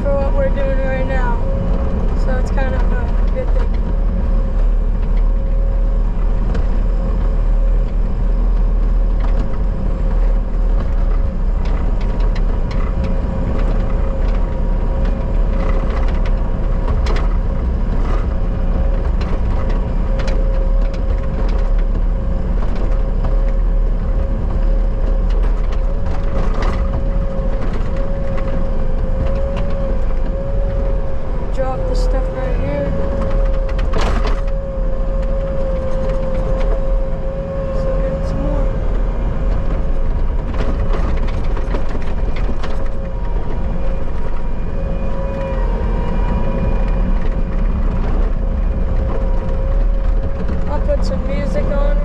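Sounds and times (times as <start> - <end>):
knocks and clatter: 0.0 - 52.0
skid steer engine running: 0.0 - 52.0
steady whine: 0.0 - 52.0.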